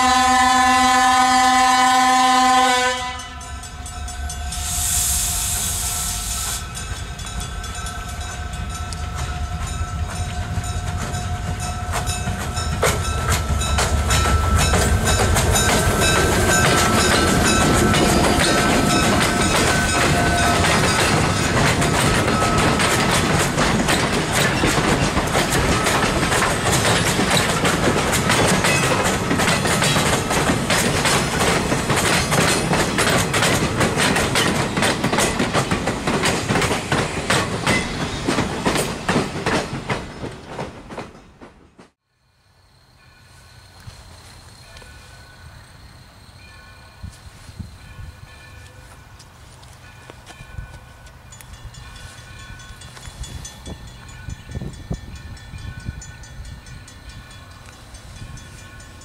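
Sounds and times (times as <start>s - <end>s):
train passing: 0.0s - 59.0s
clickety-clack of wheels on rails: 6.5s - 42.0s, 47.0s - 59.0s.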